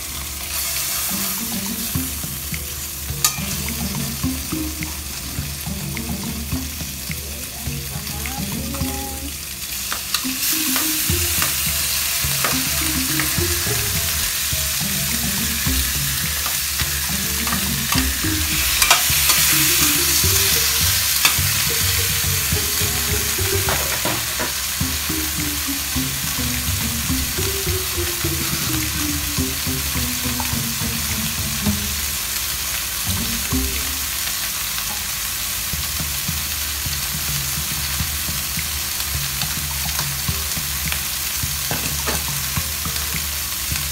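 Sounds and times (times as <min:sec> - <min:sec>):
food sizzling in oil: 0:00.0 - 0:43.9
quiet background music: 0:00.0 - 0:43.9.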